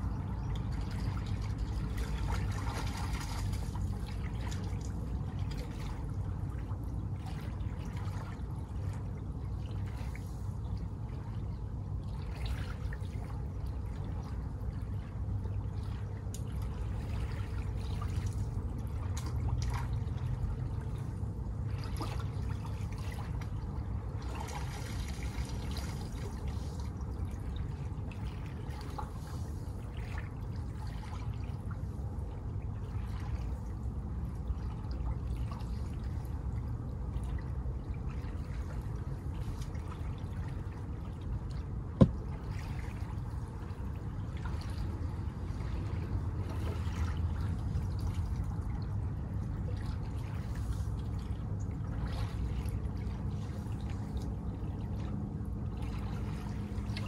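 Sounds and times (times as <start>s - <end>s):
small waves lapping on beach: 0.0s - 57.0s.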